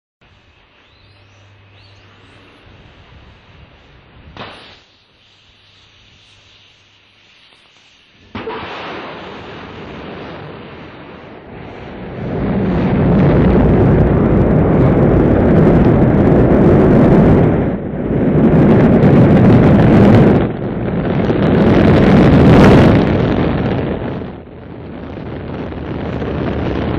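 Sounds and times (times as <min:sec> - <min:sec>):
rocket engines rumbling: 0:00.2 - 0:26.9.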